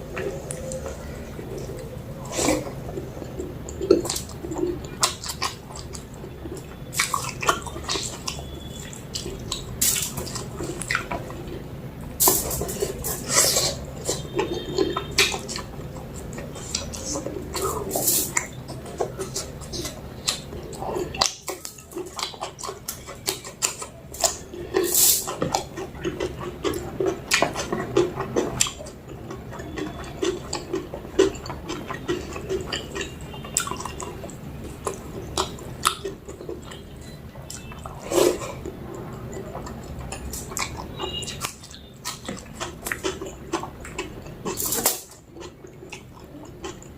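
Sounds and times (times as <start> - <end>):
wet chewing and smacking: 0.0 - 46.9.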